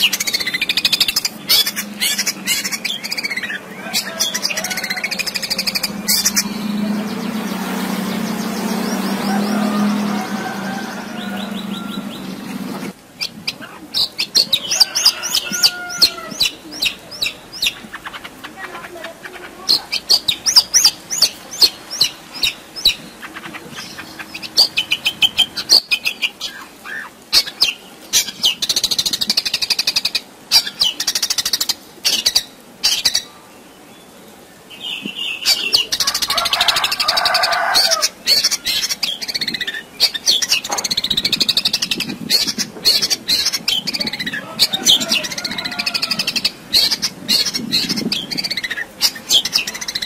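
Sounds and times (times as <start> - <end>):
bird singing varied song: 0.0 - 50.0.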